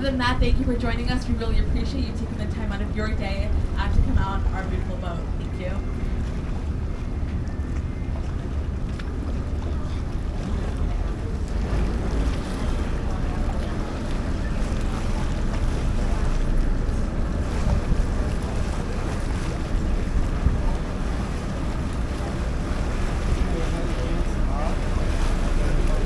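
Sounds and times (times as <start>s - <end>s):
boat engine rumbling: 0.0s - 26.0s
water rushing along hull: 0.0s - 26.0s
wind buffeting microphone: 0.0s - 26.0s.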